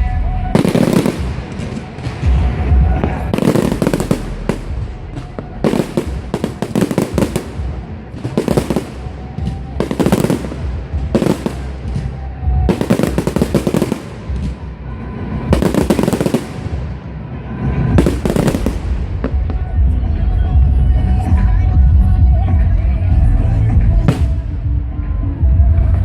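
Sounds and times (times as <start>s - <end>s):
fireworks crackling and banging: 0.0s - 21.8s, 24.0s - 26.0s.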